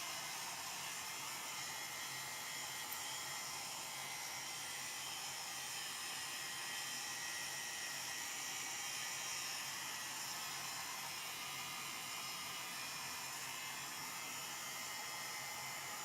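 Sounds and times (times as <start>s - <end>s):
heat gun blowing air: 0.0s - 16.0s.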